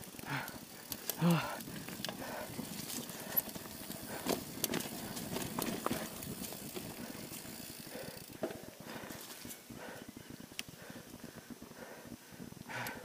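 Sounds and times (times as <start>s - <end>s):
bike rattling over bumps: 0.0s - 12.8s
bike tyres on dirt: 0.0s - 13.0s.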